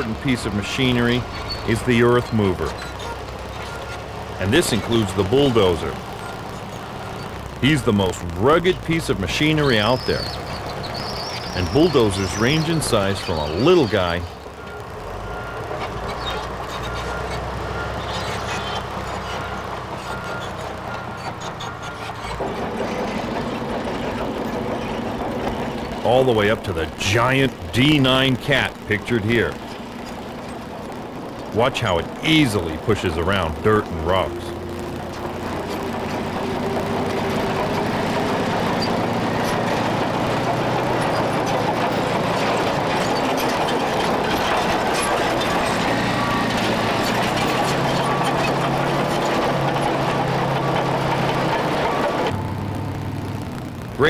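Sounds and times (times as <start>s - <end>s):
steel tracks clattering: 0.0s - 53.4s
bulldozer diesel engine running: 0.0s - 54.0s.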